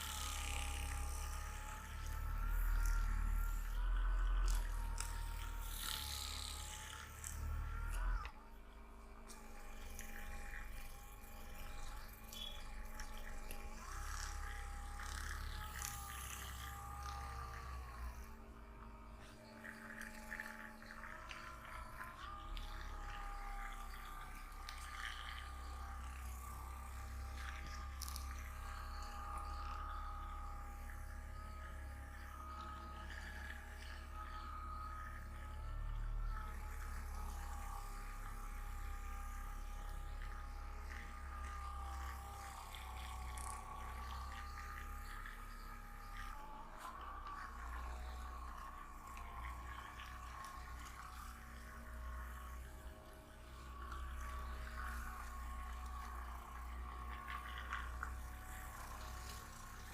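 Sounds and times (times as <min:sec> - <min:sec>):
soft ambient music: 0:00.0 - 0:59.9.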